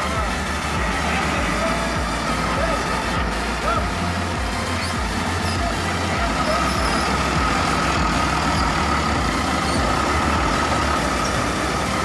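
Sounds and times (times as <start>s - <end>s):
bus diesel engine rumbling: 0.0s - 12.0s
high whine: 0.0s - 12.0s.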